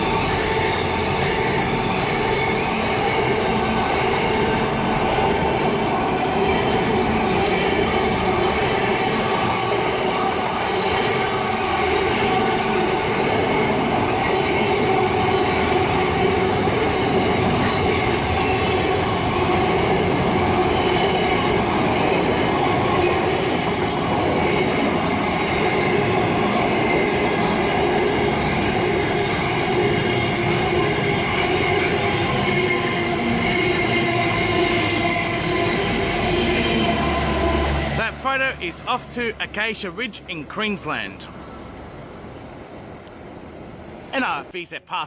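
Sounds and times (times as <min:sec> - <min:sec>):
faint steady squeal: 0:00.0 - 0:37.9.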